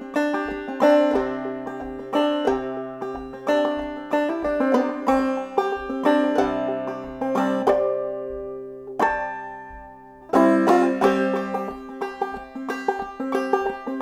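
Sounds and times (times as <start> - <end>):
banjo plucking: 0.0 - 14.0.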